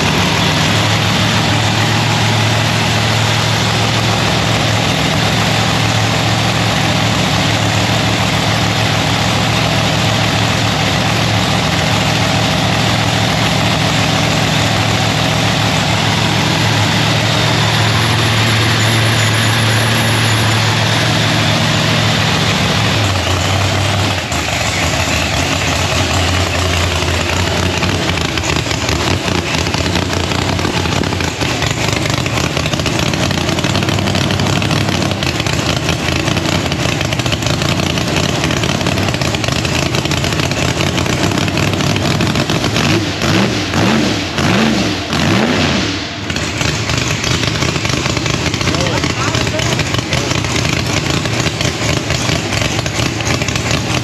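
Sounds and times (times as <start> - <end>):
supercharged car engine idling: 0.0 - 54.0.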